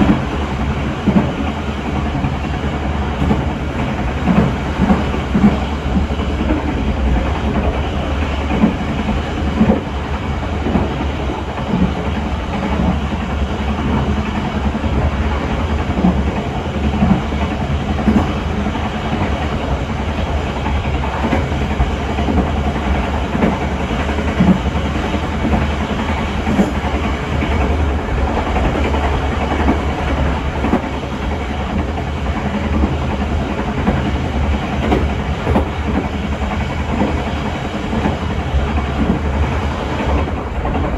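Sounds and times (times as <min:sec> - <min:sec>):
train rumbling on track: 0:00.0 - 0:40.9.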